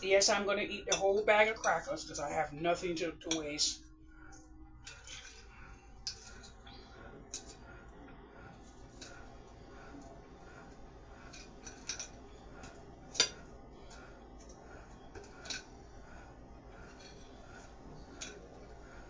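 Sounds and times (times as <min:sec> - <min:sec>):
faint background hum: 0:00.0 - 0:19.0.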